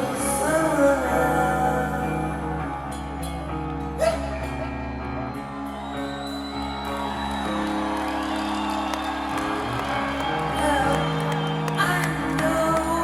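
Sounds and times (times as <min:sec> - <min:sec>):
sustained guitar chords: 0:00.0 - 0:13.0.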